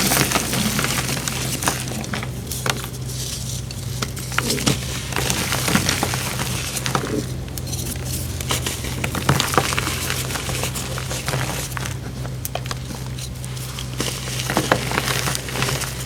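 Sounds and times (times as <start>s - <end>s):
chalky blocks crushed by hand: 0.0s - 16.0s
low hum: 0.0s - 16.0s.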